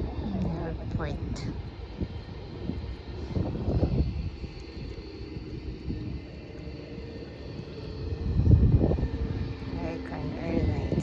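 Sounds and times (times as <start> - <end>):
faint high whine: 0.0 - 11.0
jet engines rumbling overhead: 0.0 - 11.0.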